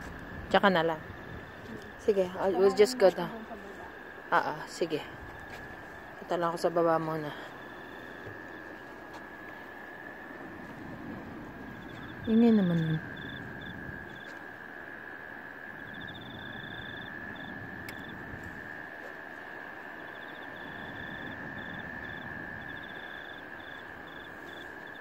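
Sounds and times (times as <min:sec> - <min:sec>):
insect pulsed trill: 0:00.0 - 0:25.0
insects droning: 0:00.0 - 0:25.0
low rush of noise: 0:00.0 - 0:25.0.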